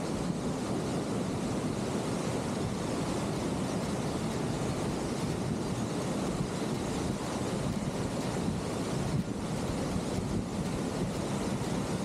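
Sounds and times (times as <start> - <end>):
rushing mountain stream: 0.0 - 12.0.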